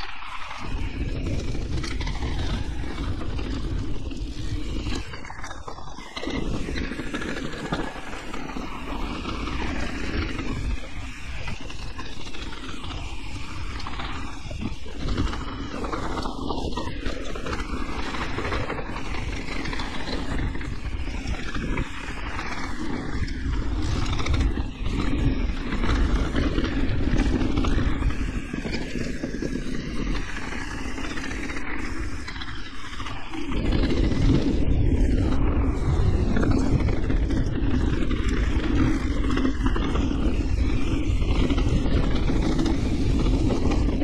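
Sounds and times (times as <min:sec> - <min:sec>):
bike tyre noise: 0:00.0 - 0:44.0
wind on microphone: 0:00.0 - 0:44.0
bike rattling and knocking: 0:00.2 - 0:44.0.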